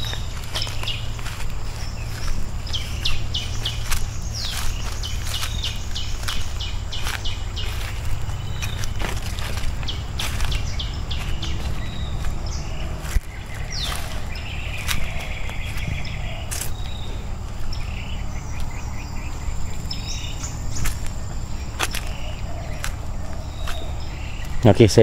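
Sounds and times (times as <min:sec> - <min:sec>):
buzzing insect call: 0:00.0 - 0:24.7
bird chirps: 0:00.0 - 0:25.0
low microphone rumble: 0:00.0 - 0:25.0.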